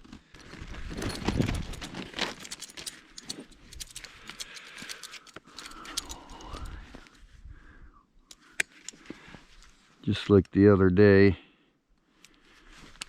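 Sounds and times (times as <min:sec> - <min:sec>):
person handling gear: 0:00.0 - 0:07.4, 0:08.2 - 0:10.6, 0:12.0 - 0:13.0.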